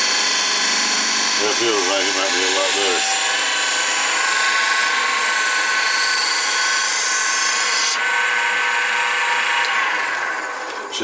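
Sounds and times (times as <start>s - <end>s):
lathe whine: 0.0s - 11.0s.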